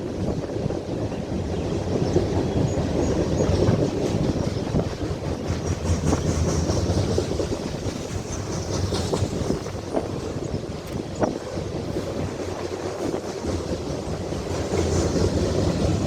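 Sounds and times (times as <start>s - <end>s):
freight train rumbling past: 0.0s - 16.0s
wheels clicking over rail joints: 0.1s - 16.0s.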